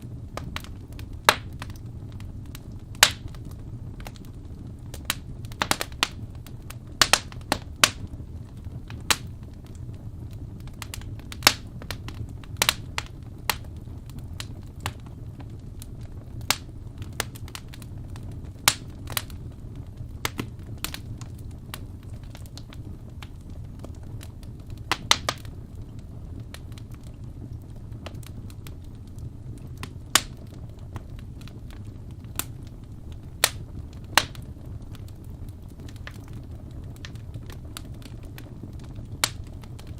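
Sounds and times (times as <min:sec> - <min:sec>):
fire pops and snaps: 0:00.0 - 0:39.9
low rumble of flames: 0:00.0 - 0:39.9.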